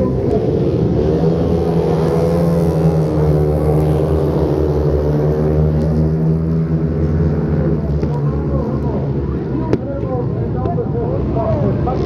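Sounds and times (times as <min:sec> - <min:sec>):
motorcycles racing past: 0:00.0 - 0:10.0.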